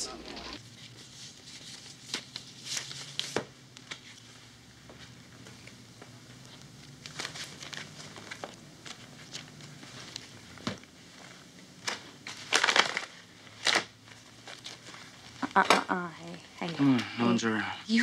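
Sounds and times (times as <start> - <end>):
rustling and crinkling handling: 0.0 - 16.8.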